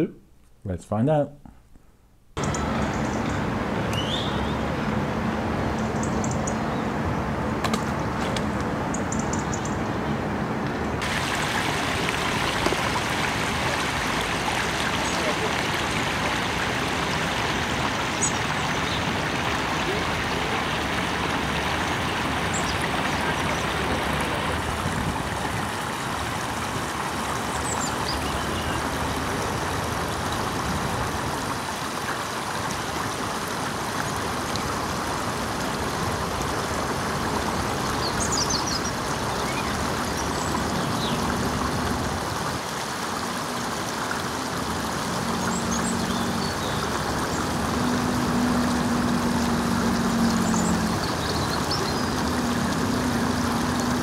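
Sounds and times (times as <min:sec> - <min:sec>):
water rushing in concrete channel: 0:02.4 - 0:54.0.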